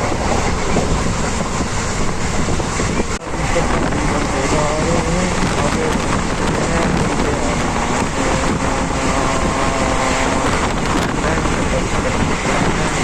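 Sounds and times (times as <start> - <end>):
train coaches rumbling: 0.0 - 13.0
wind noise on microphone: 0.0 - 13.0.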